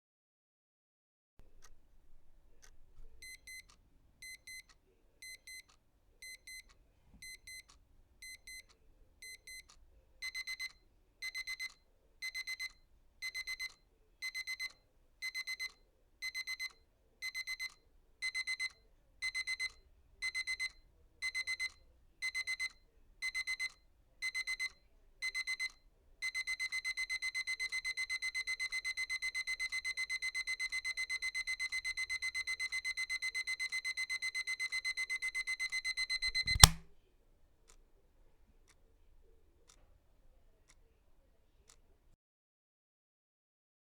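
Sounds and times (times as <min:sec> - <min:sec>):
alarm clock beeping: 0:01.6 - 0:36.8.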